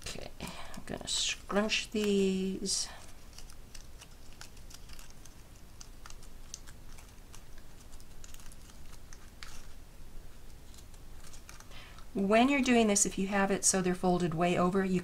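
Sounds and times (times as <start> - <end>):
paper strips crinkling: 0.0 - 12.2.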